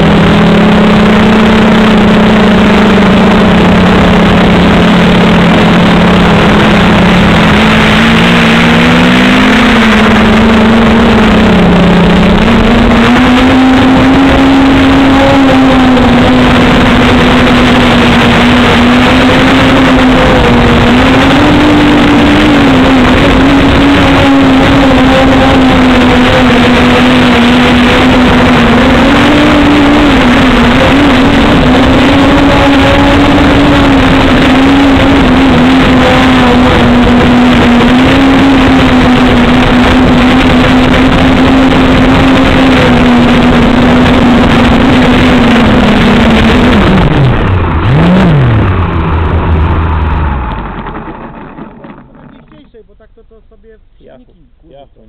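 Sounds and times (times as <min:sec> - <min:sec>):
model airplane engine at high revs: 0:00.0 - 0:53.4.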